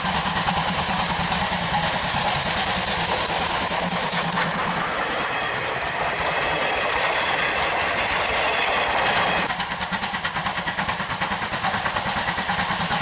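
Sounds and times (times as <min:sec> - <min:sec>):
steam locomotive exhaust chuffs: 0:00.0 - 0:13.0
steam rushing: 0:00.0 - 0:13.0.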